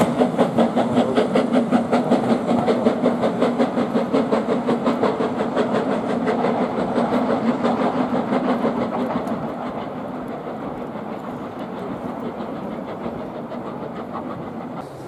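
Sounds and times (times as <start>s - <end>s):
steam locomotive exhaust beats: 0.0s - 15.0s.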